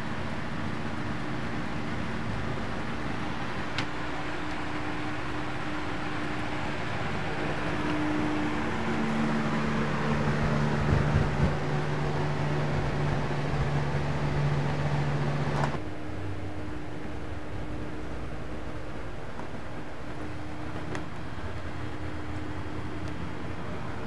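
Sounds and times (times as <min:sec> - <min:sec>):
box fan whirring: 0:00.0 - 0:24.0.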